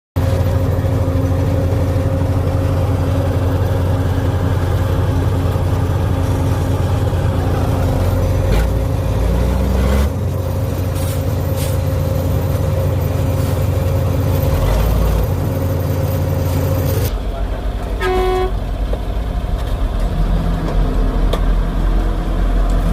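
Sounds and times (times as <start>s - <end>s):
diesel machinery droning: 0.2s - 22.9s.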